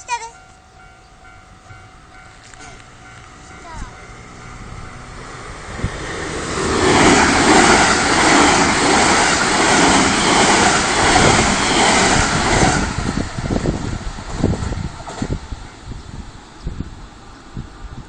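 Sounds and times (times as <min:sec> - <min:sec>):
electric train wheels rumbling: 0:00.0 - 0:18.0.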